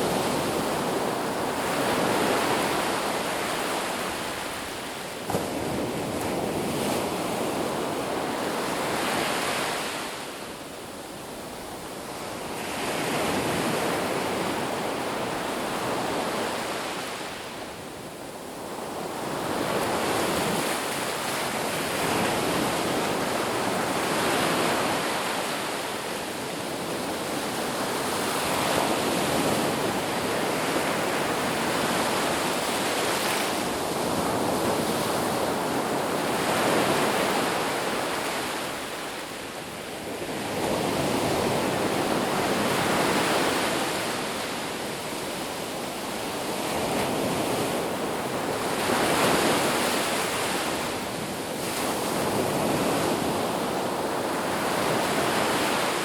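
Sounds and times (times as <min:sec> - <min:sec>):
ocean surf washing ashore: 0:00.0 - 0:56.0.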